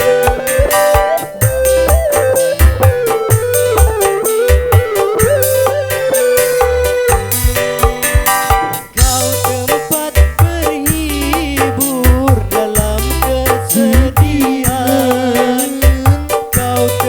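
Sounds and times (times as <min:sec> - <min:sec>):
bass and drum beat: 0:00.0 - 0:17.0
keyboard melody: 0:00.0 - 0:17.0.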